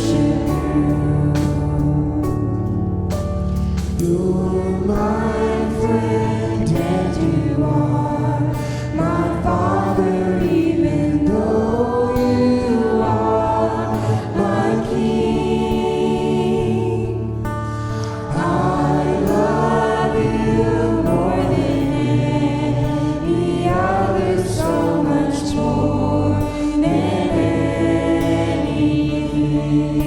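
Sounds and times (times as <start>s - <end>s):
group singing worship song: 0.0s - 30.0s
keyboard and bass notes: 0.0s - 30.0s.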